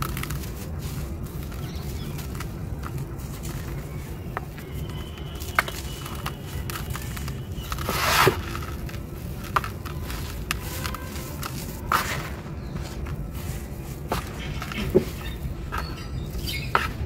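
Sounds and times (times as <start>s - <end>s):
low background rumble: 0.0s - 17.0s
sand mix crumbling in hands: 0.0s - 17.0s.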